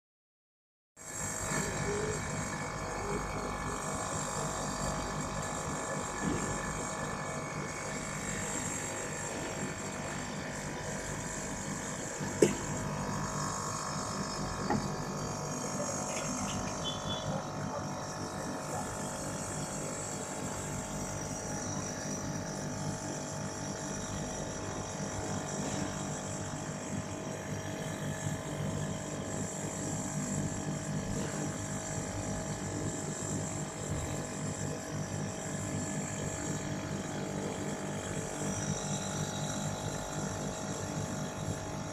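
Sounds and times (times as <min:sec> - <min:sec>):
compressor humming and whining: 0:01.0 - 0:41.9.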